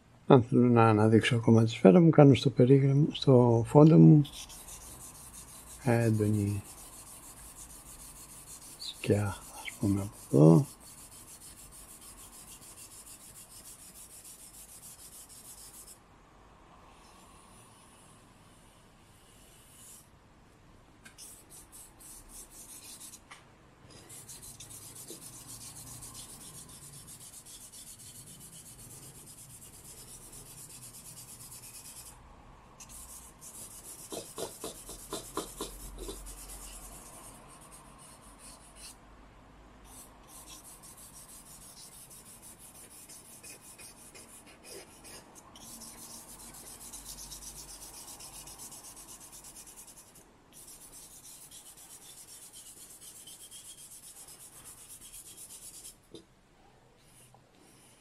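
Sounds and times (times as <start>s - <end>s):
charcoal scratching on paper: 4.2s - 16.0s, 17.5s - 20.1s, 21.2s - 23.3s, 23.9s - 32.2s, 32.8s - 39.0s, 39.8s - 56.2s.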